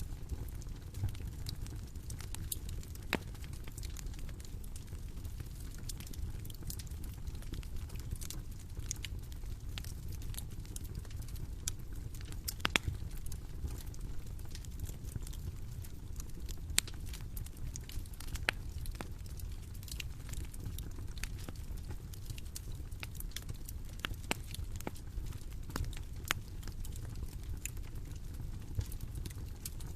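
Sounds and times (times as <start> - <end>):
low fire rumble: 0.0 - 29.9
bonfire pops and snaps: 0.1 - 29.9.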